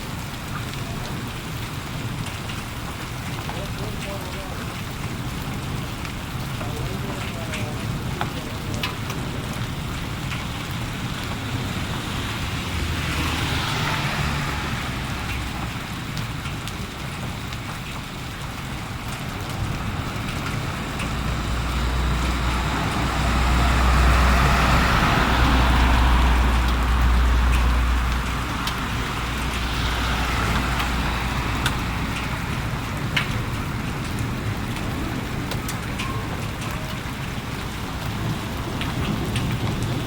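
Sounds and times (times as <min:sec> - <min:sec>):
steady rain hiss: 0:00.0 - 0:40.0
vehicles passing on wet road: 0:00.0 - 0:40.0.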